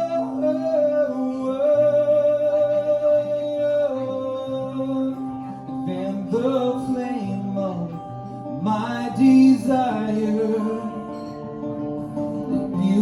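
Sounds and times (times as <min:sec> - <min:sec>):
man singing long wordless note: 0:00.0 - 0:11.6, 0:12.2 - 0:13.0
acoustic guitar ringing: 0:00.0 - 0:13.0.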